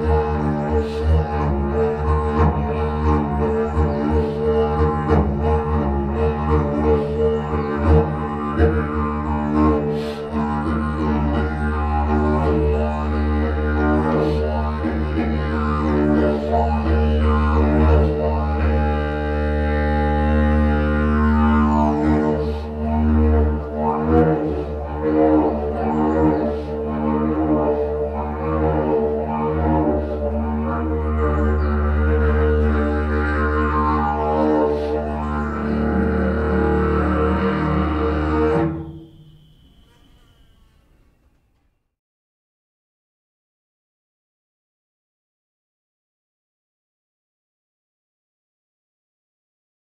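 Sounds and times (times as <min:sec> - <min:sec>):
didgeridoo droning: 0:00.0 - 0:40.5.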